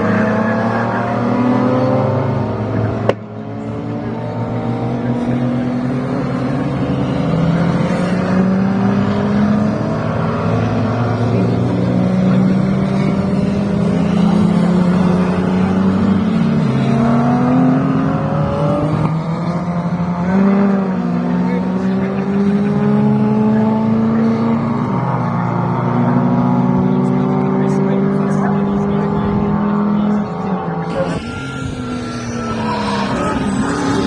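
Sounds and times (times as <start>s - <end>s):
racing car engines at high revs: 0.0s - 34.0s.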